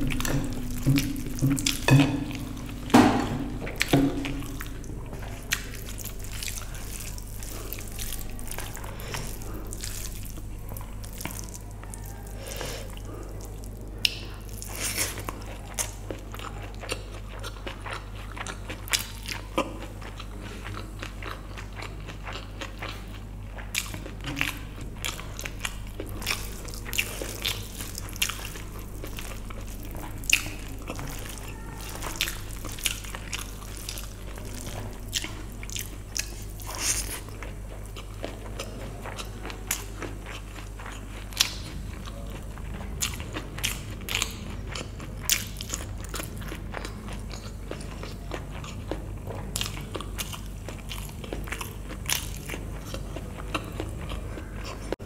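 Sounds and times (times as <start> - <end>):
chewing and wet mouth clicks: 3.7 - 54.8.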